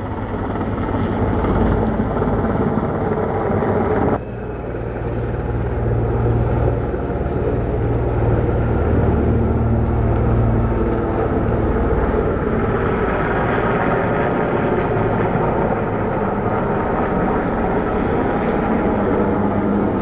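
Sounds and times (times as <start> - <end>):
engine running with low rumble: 0.0 - 20.0.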